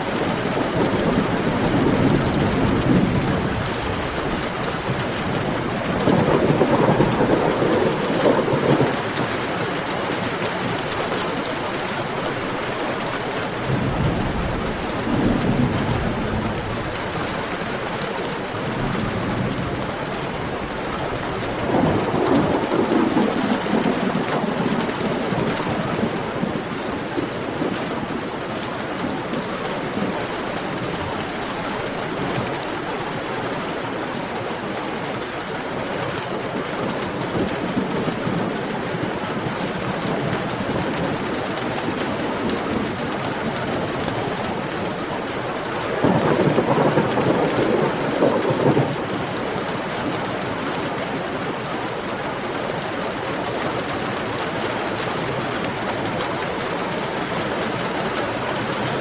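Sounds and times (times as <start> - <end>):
heavy rain pouring: 0.0 - 59.0
thunder rumbling: 0.0 - 59.0.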